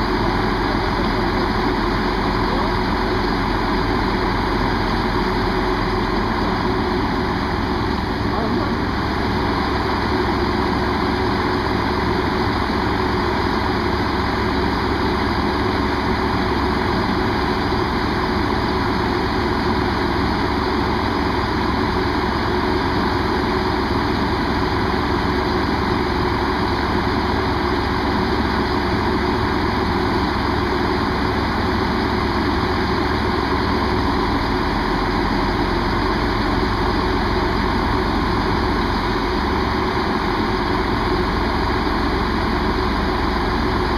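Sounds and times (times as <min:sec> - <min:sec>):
diesel train engine idling: 0:00.0 - 0:43.9.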